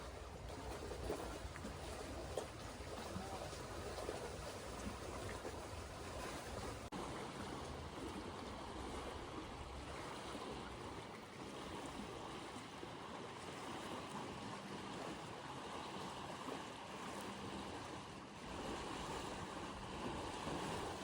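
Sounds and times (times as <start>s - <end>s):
lake waves lapping on shore: 0.0s - 21.0s.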